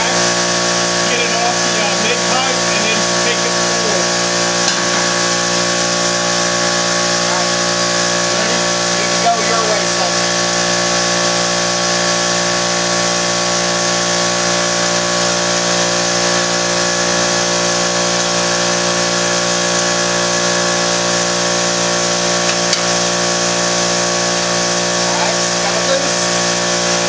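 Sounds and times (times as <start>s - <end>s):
power cutting tool whining: 0.0s - 27.0s.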